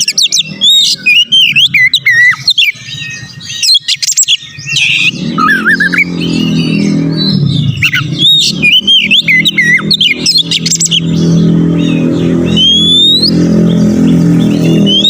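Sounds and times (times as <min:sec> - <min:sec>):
magpie-robin singing: 0:00.0 - 0:15.0.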